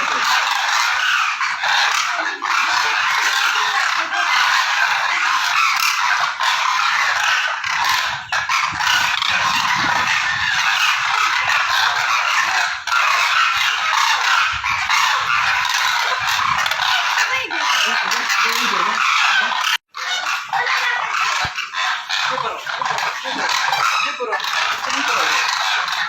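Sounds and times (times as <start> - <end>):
flock of cranes calling: 0.0 - 26.0.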